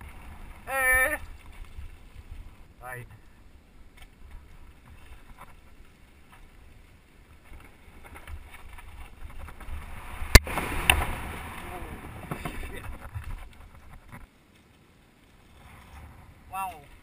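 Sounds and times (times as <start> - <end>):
bike tyres rumbling on dirt: 0.0 - 2.7, 3.3 - 14.4.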